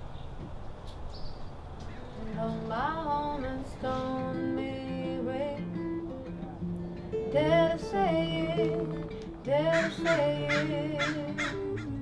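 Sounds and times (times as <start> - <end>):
acoustic guitar: 1.8 - 12.0.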